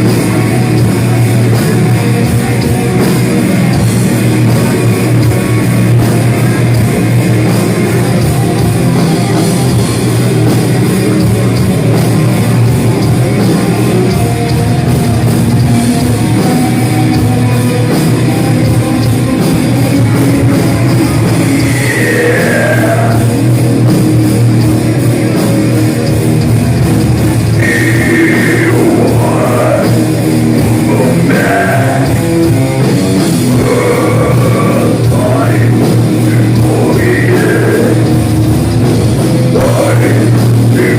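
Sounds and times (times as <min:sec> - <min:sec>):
heavy metal band playing: 0:00.0 - 0:40.9
sliding high guitar notes: 0:00.0 - 0:40.9.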